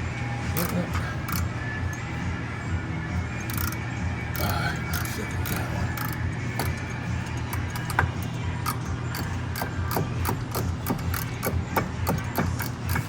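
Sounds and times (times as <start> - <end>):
ratchet wrench clicking: 0.6 - 2.0, 3.4 - 13.0.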